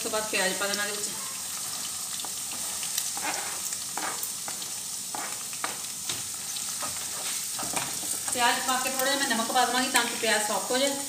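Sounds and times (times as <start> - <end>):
onion sizzling in a pan: 0.0 - 11.0.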